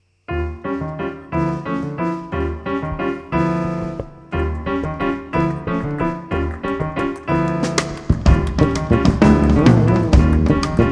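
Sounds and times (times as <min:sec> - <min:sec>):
jazz piano chords: 0:00.3 - 0:10.9.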